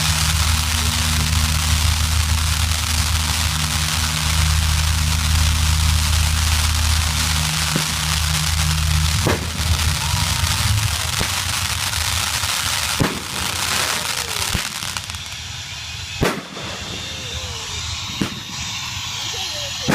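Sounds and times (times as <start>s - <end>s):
firework bangs: 0.0s - 19.9s
fireworks crackling: 0.0s - 19.9s.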